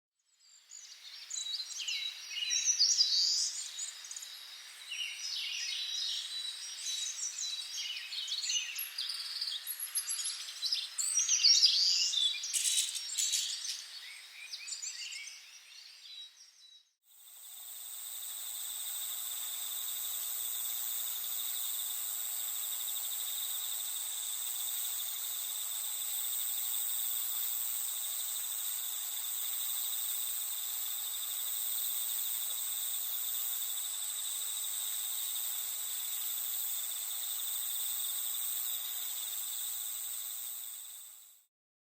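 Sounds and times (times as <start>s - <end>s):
faint insect trill: 0.3s - 41.5s
cricket chorus: 0.5s - 41.4s.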